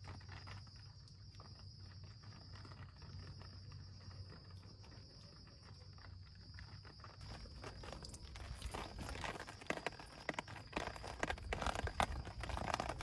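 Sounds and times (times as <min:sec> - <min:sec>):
insect chirring: 0:00.0 - 0:13.0
small clicks and rustles: 0:00.0 - 0:13.0.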